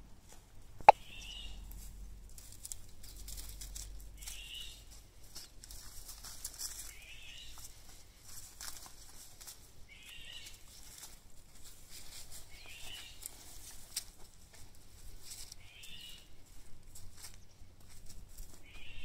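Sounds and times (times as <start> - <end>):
puppies rustling in shrubs: 0.2 - 19.0.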